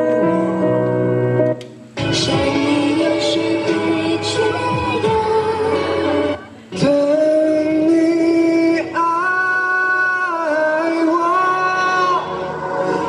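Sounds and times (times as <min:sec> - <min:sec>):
backing music: 0:00.0 - 0:13.0.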